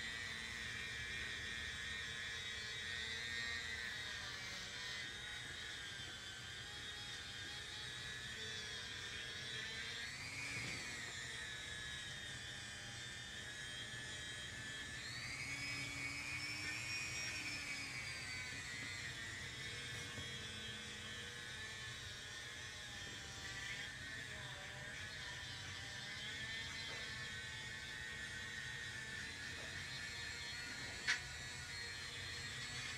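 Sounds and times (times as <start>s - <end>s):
rotary tool sanding metal: 0.0s - 32.9s.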